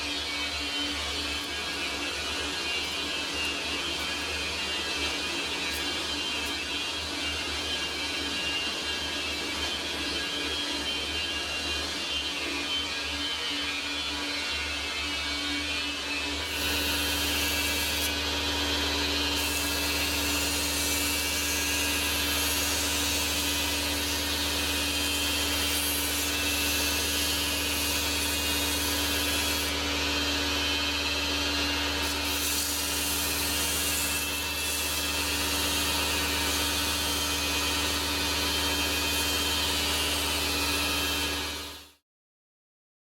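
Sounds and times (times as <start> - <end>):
metal lathe machining: 0.0 - 42.0.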